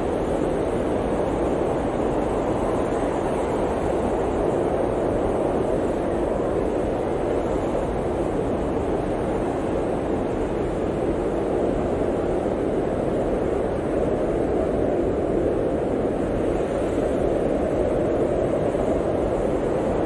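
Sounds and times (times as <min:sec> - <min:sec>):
low blizzard wind: 0:00.0 - 0:20.0.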